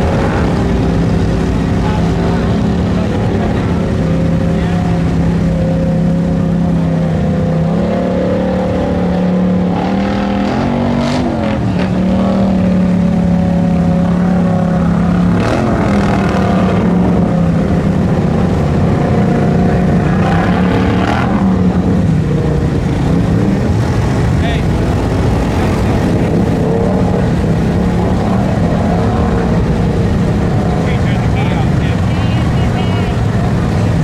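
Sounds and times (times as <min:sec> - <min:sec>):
truck engine revving high: 0:00.0 - 0:34.0.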